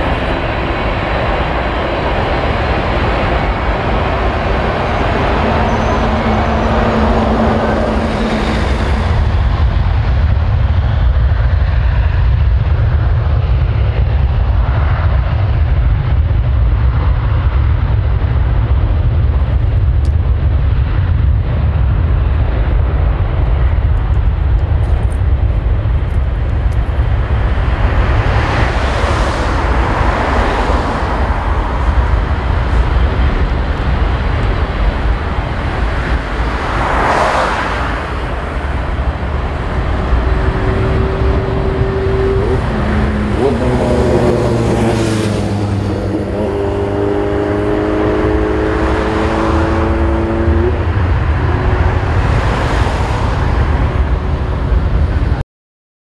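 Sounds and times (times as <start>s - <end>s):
jet engines at takeoff thrust: 0.0s - 55.4s.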